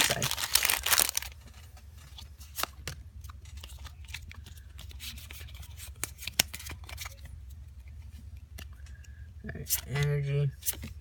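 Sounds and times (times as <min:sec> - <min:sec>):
cards clicking and rustling: 0:00.0 - 0:09.0.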